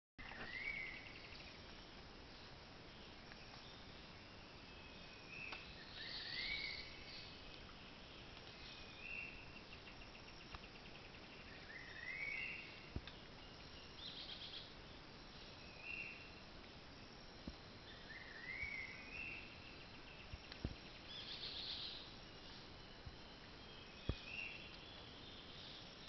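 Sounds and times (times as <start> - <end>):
faint hiss: 0.2 - 26.0.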